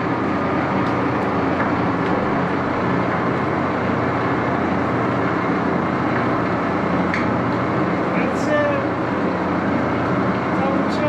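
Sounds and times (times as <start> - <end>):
lathe running with mechanical drone: 0.0 - 11.0.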